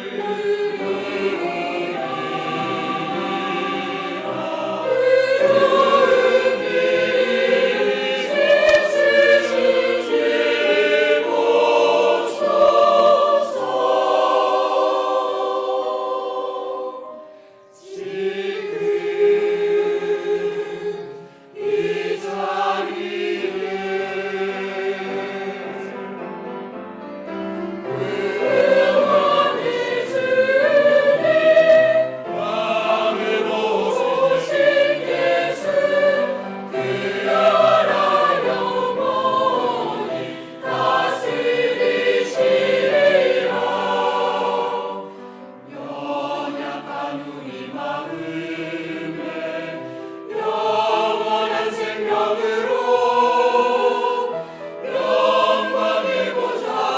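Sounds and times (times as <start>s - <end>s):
church choir singing: 0.0s - 56.9s.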